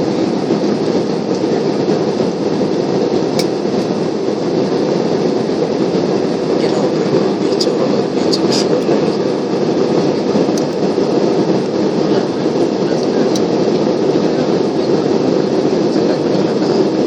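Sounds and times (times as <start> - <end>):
jet engine cabin roar: 0.0 - 17.0.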